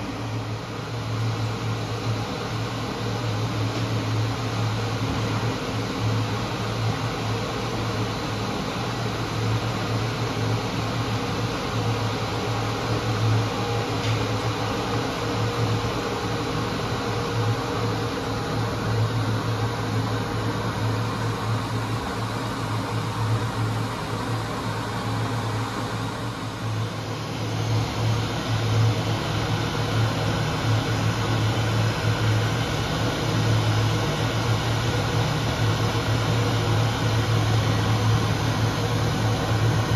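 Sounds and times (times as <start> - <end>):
ventilation hum and air noise: 0.0 - 39.9.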